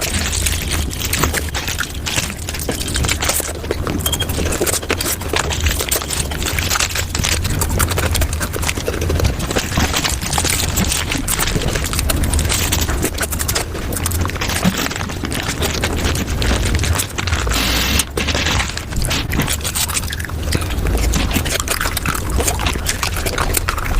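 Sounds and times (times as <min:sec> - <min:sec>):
chewing and crunching: 0:00.0 - 0:23.9
wet mouth clicks: 0:00.0 - 0:23.9.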